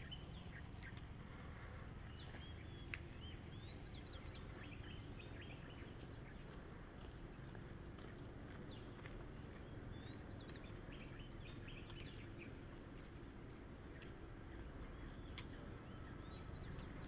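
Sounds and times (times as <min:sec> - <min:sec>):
low outdoor background hum: 0:00.0 - 0:17.0
small birds chirping: 0:00.0 - 0:17.0.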